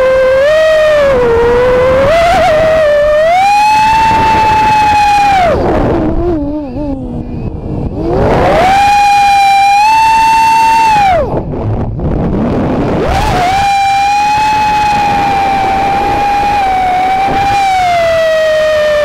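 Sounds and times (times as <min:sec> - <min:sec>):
quadcopter motors whining: 0:00.0 - 0:11.4, 0:12.9 - 0:19.0
wind rushing: 0:00.8 - 0:19.0.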